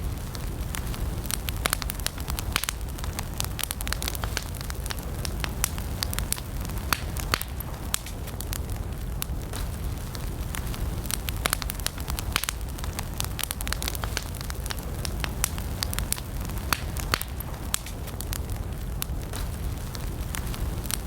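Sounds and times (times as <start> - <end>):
campfire pops and snaps: 0.0 - 21.0
low rumble of flames: 0.0 - 21.0.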